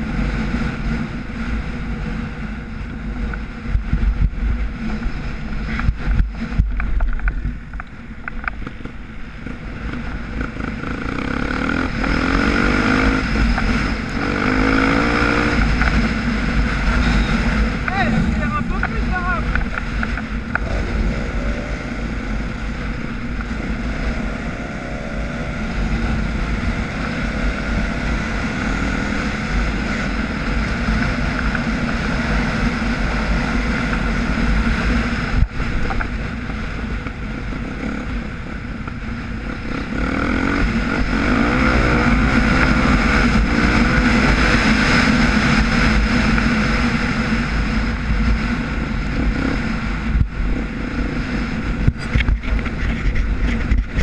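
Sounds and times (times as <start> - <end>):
dirt bike engine running: 0.0 - 54.0
wind buffeting microphone: 0.0 - 54.0.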